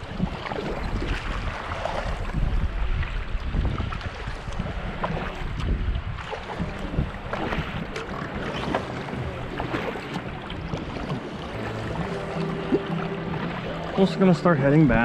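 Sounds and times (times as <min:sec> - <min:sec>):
water splashing against kayak: 0:00.0 - 0:15.0
wind buffeting microphone: 0:00.0 - 0:15.0.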